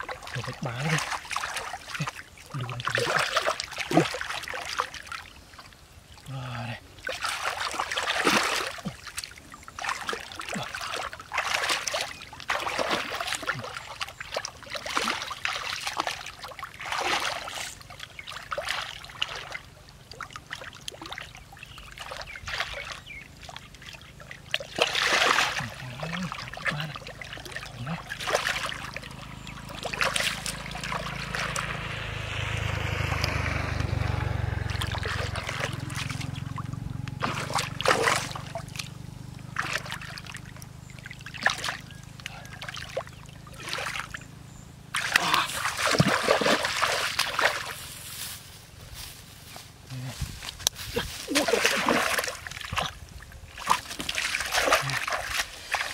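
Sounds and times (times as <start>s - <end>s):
muddy water splashing: 0.0s - 55.9s.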